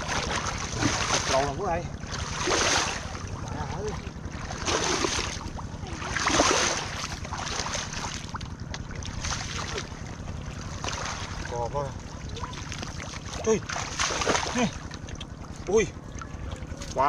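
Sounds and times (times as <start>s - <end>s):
shallow water splashing: 0.0s - 17.0s.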